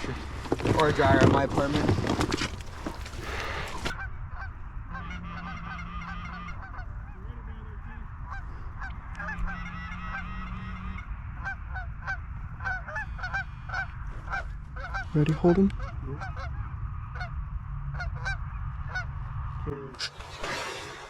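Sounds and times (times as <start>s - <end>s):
geese honking: 0.0s - 19.3s
wind noise on microphone: 0.0s - 21.0s.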